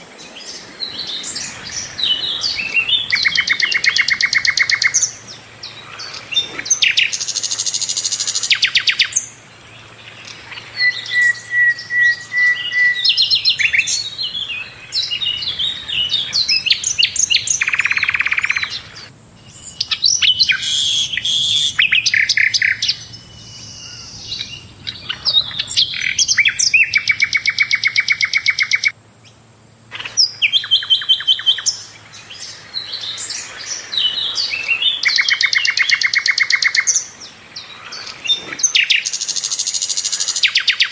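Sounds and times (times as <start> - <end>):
flycatcher singing trills: 0.0 - 29.4, 30.0 - 40.9.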